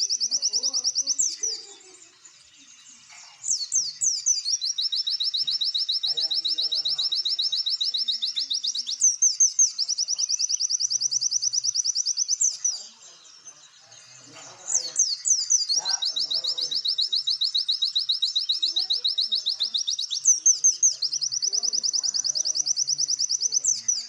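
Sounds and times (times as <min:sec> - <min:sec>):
songbird trilling: 0:00.0 - 0:24.0.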